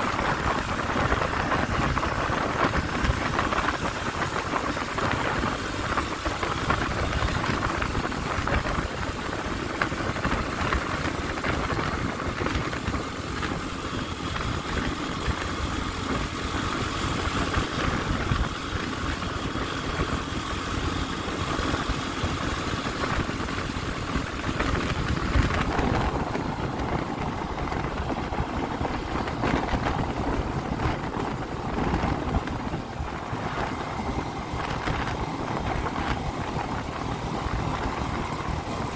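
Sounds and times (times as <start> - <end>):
moped engine running: 0.0 - 38.9
wind rushing over microphone: 0.0 - 38.9.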